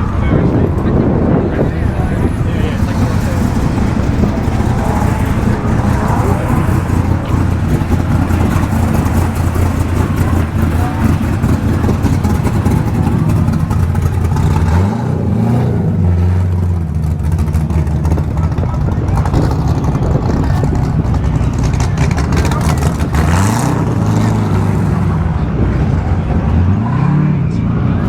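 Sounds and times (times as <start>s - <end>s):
car engine revving: 0.0s - 28.0s
car engines running: 0.0s - 28.0s.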